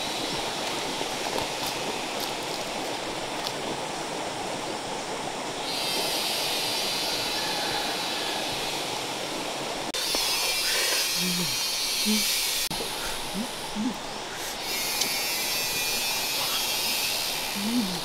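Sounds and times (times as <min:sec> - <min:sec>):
high steady hiss: 0:00.0 - 0:18.0
stream running over rocks: 0:00.0 - 0:18.0.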